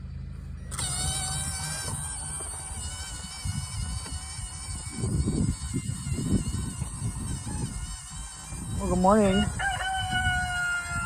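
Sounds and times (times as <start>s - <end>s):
high-pitched buzz: 0.4s - 11.0s.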